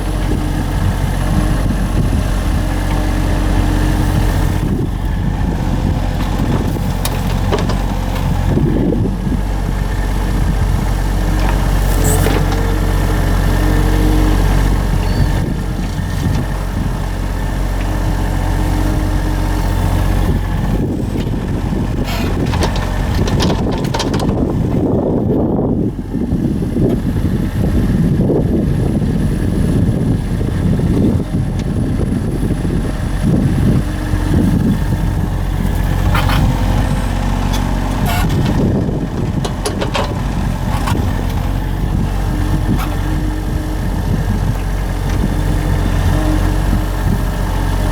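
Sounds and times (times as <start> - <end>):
small engine running: 0.0 - 25.0, 25.6 - 47.9.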